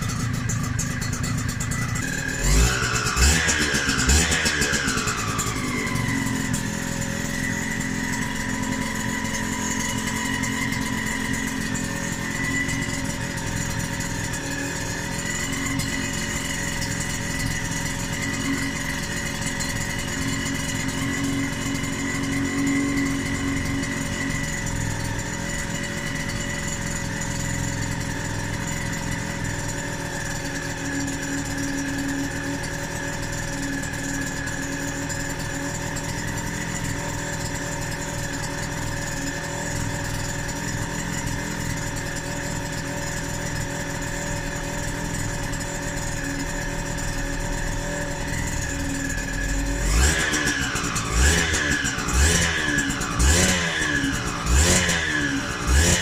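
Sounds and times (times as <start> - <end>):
engine revving: 0.0 - 31.6, 32.2 - 56.0
motorcycle engine idling: 0.0 - 56.0.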